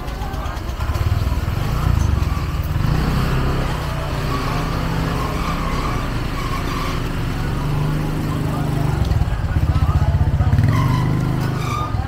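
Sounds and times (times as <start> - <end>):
street noise: 0.0 - 12.0
vehicle engine running: 0.0 - 12.0.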